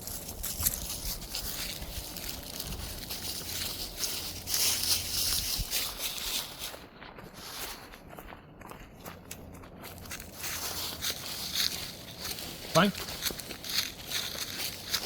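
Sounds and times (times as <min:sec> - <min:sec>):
footsteps through grass and brush: 0:00.0 - 0:15.0.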